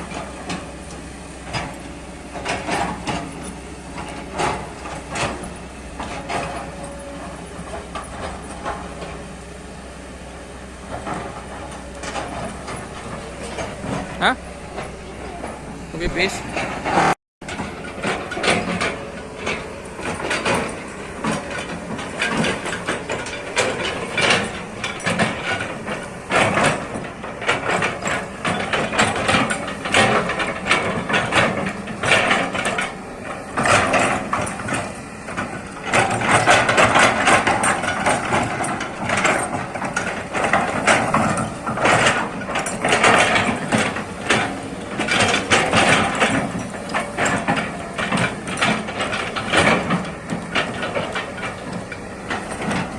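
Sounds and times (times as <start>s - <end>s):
excavator bucket clanks and knocks: 0.0s - 52.9s
excavator diesel engine running: 0.0s - 52.9s.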